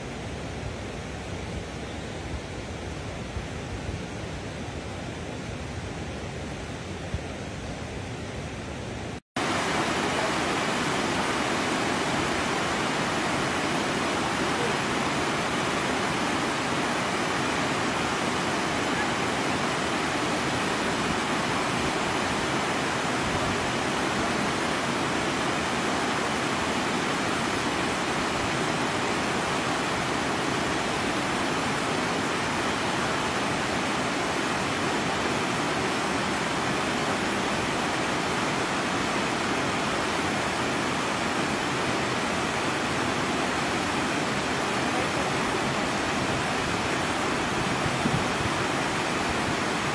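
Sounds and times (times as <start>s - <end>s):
flowing river water: 0.0s - 49.9s.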